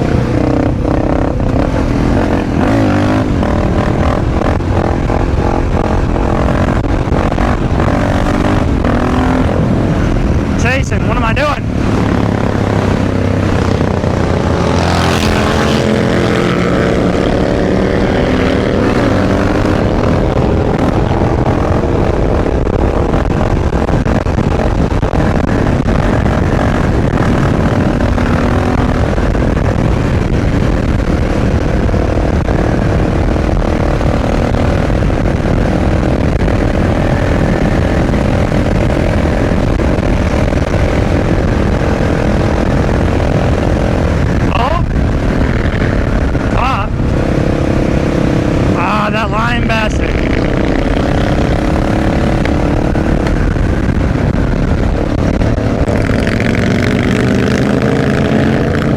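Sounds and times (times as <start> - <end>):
motorcycle engine revving: 0.0 - 58.9
steady rushing noise: 0.0 - 58.9.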